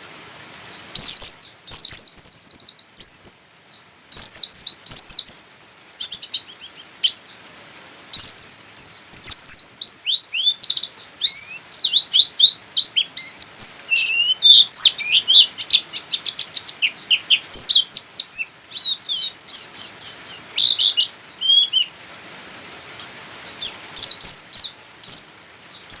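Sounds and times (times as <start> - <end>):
bird chirping and trilling: 0.6 - 22.1, 23.0 - 26.0.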